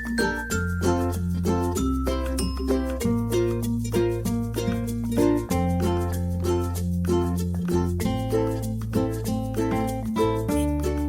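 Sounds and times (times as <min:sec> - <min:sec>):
plucked-string tune: 0:00.0 - 0:11.0
steady bass line: 0:00.0 - 0:11.0.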